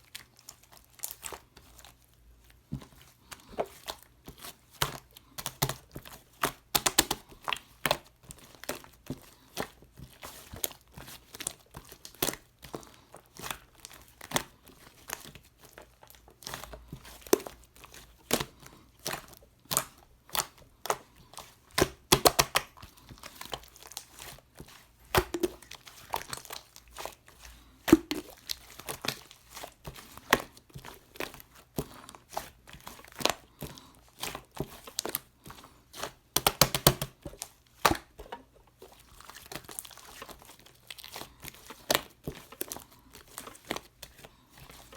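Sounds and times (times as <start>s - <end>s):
slime popping and crackling: 3.4s - 9.0s, 9.6s - 35.3s, 36.0s - 38.3s, 38.9s - 44.1s.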